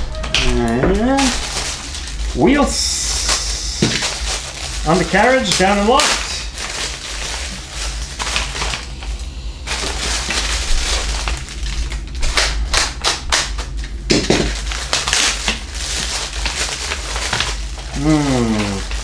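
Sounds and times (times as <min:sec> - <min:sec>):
plastic bag crinkling: 0:00.0 - 0:19.0
sharp crackles: 0:00.0 - 0:19.0.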